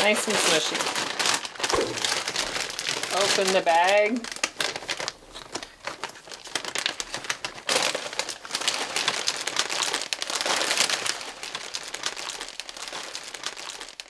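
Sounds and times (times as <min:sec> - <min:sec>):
chip bag crackling: 0:00.0 - 0:14.0
plastic bag crinkling: 0:00.0 - 0:14.0.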